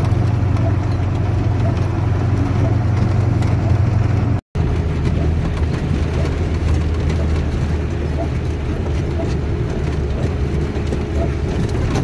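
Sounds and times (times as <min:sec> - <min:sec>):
tyre noise on wet road: 0:00.0 - 0:12.0
vehicle engine drone: 0:00.0 - 0:12.0.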